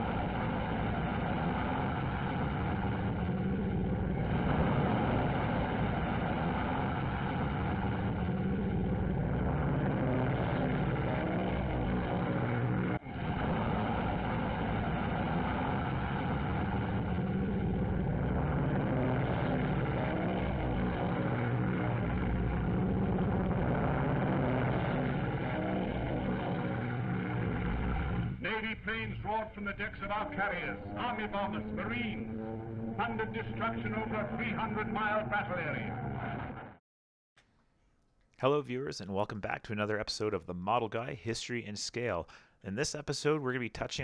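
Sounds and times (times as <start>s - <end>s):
propeller aircraft engines running: 0.0s - 35.4s.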